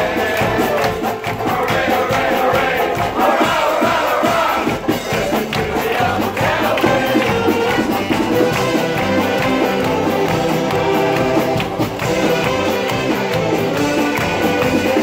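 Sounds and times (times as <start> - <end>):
string band playing live: 0.0 - 15.0.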